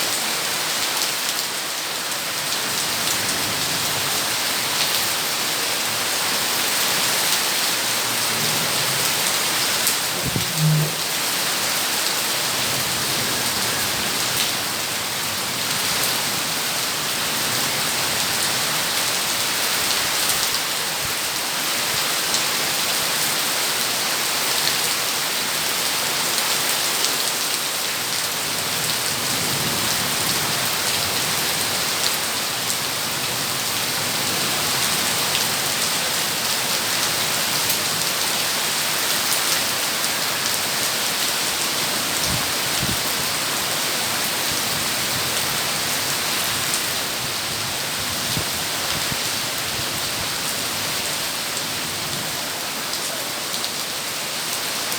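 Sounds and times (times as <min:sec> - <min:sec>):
heavy rain pattering: 0:00.0 - 0:54.9.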